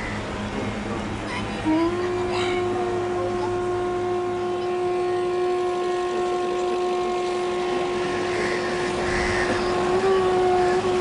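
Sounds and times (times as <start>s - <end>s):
steady droning tone: 0.0s - 11.0s.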